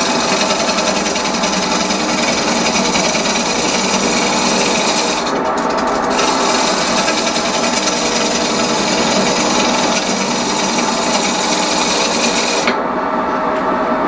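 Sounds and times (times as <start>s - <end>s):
turning tool scraping wood: 0.0s - 12.8s
wood lathe running: 0.0s - 12.8s.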